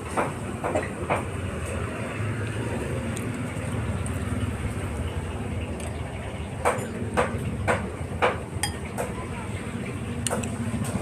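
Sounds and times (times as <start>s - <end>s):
passing vehicle traffic rumble: 0.0s - 11.0s.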